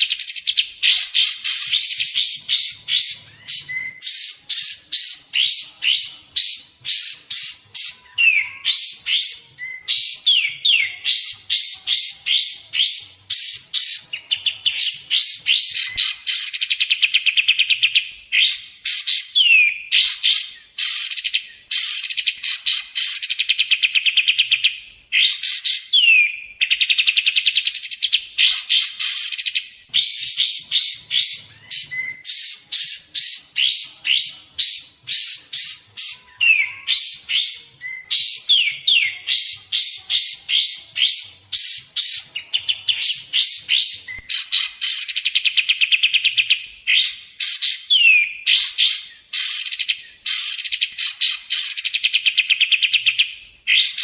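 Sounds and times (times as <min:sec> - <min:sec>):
bird chirps and trills: 0:00.0 - 0:54.0.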